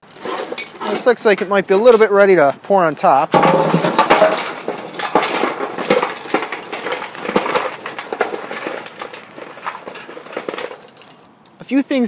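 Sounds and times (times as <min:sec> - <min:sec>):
coals clattering onto metal: 0:00.0 - 0:11.5.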